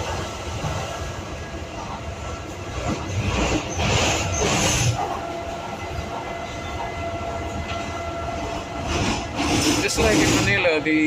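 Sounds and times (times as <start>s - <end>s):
train rumbling inside carriage: 0.0s - 11.0s.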